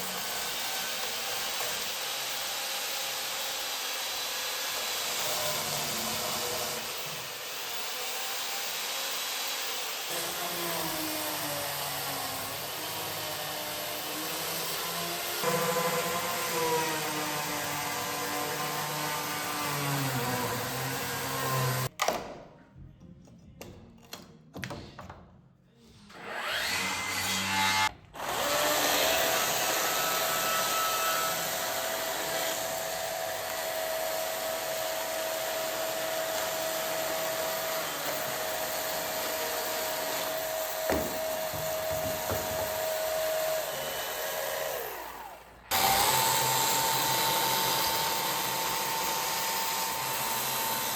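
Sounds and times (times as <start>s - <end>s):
electric drill whining: 0.0s - 21.9s, 26.1s - 50.9s.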